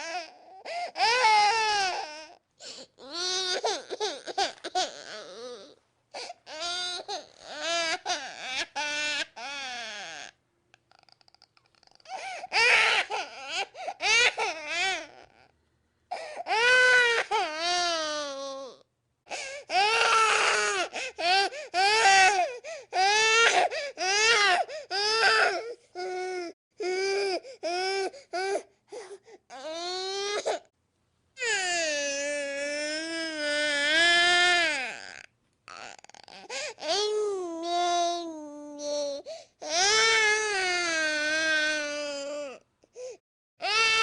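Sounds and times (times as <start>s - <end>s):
infant crying: 0.0s - 10.4s, 11.0s - 15.5s, 16.1s - 30.7s, 31.4s - 44.0s.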